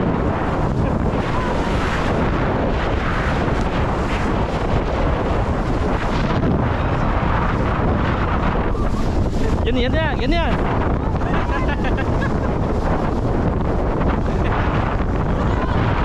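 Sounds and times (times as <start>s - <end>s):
rushing sea water: 0.0s - 16.0s
wind buffeting microphone: 0.0s - 16.0s.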